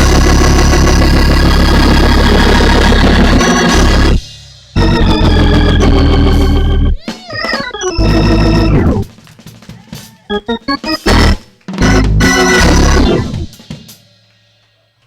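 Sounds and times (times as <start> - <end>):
organ playing runs and chords: 0.0 - 9.1, 10.3 - 13.6.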